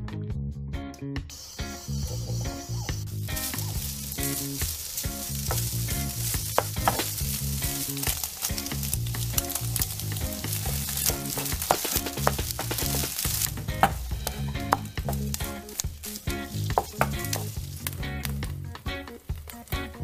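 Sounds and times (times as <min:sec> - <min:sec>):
meat sizzling in oil: 0:01.4 - 0:18.6.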